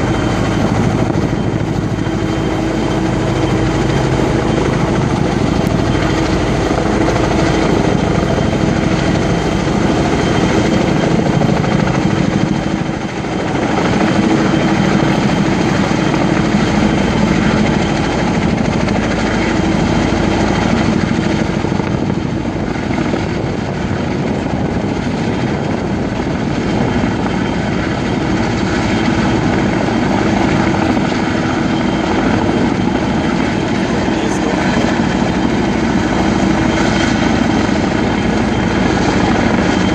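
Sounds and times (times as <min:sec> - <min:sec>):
helicopter rotor and turbine noise: 0:00.0 - 0:39.9.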